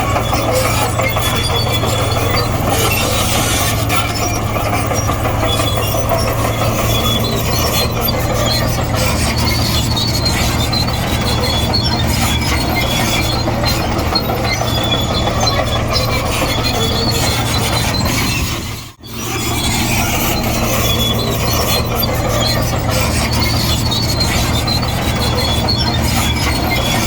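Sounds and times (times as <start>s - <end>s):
bulldozer engine droning: 0.0s - 27.0s
steel tracks squealing and clanking: 0.0s - 27.0s.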